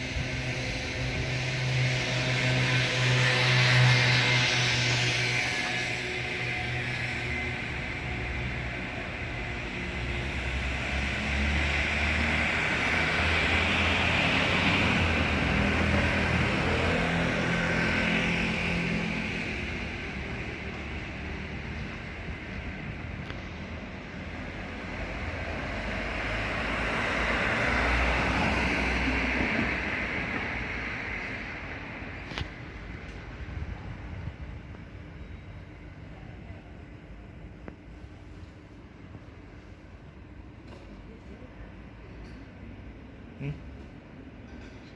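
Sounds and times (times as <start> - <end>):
vehicle engine rumble: 0.0 - 44.9.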